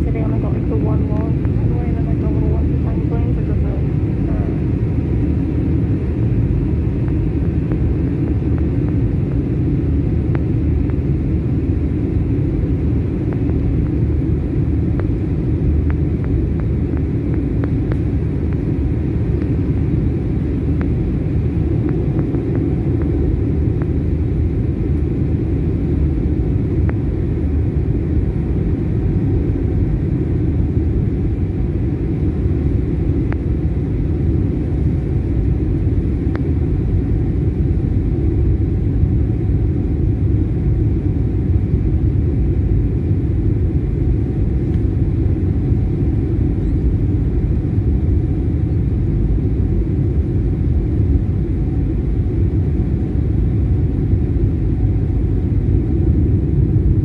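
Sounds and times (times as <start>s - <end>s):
airplane cabin engine noise: 0.0s - 57.0s.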